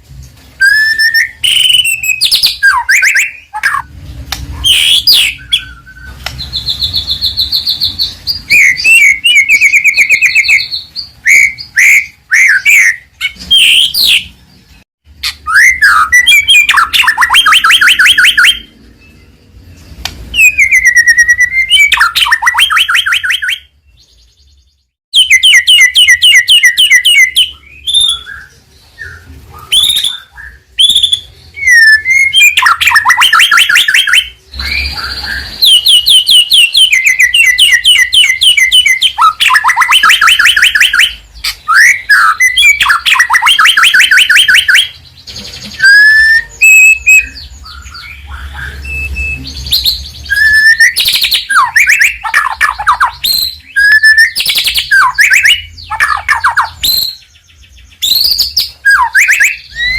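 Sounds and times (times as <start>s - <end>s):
songbird singing: 0.2s - 59.9s.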